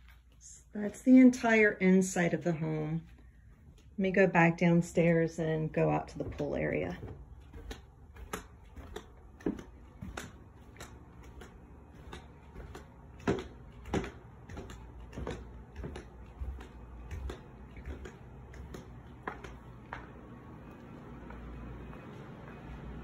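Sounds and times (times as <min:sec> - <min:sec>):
footsteps on stairs and floor: 0:00.0 - 0:23.0.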